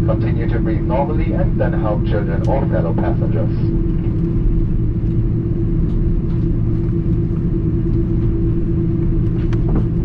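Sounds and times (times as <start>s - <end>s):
airplane cabin rumble and hum: 0.0s - 10.0s.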